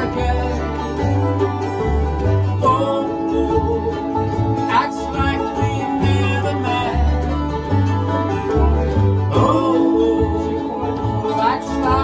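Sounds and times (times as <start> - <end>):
acoustic guitar: 0.0 - 12.0
banjo: 0.0 - 12.0
fiddle: 0.0 - 12.0
mandolin: 0.0 - 12.0
upright bass line: 0.0 - 12.0.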